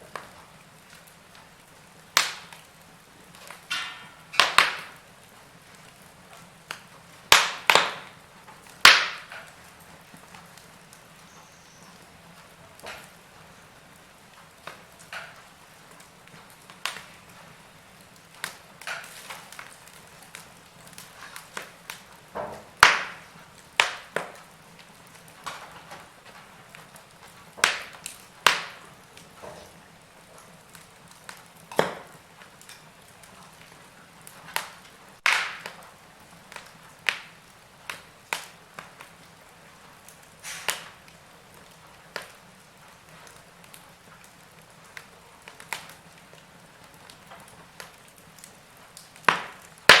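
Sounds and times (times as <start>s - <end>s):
wood fire crackling and popping: 0.0s - 50.0s.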